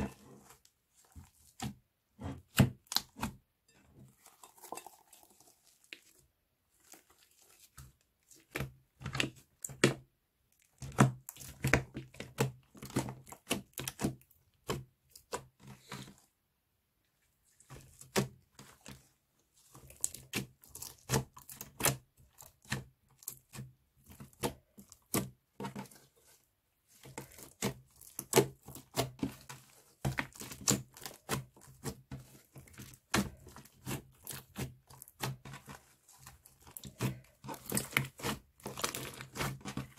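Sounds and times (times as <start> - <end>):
slime squishing: 0.0 - 16.4, 17.0 - 39.9.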